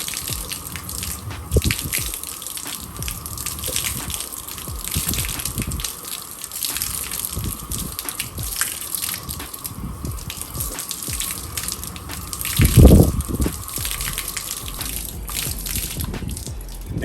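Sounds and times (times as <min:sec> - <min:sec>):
hose water splashing on glass: 0:00.0 - 0:17.0.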